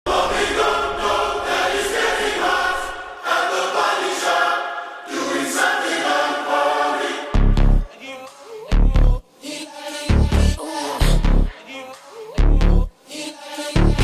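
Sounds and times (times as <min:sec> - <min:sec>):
choral singing: 0:00.1 - 0:14.0.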